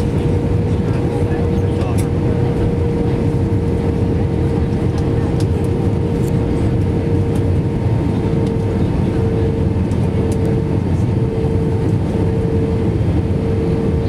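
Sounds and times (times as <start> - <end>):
airliner engines and airflow rumble: 0.0 - 14.0
pulsing hum: 0.0 - 14.0.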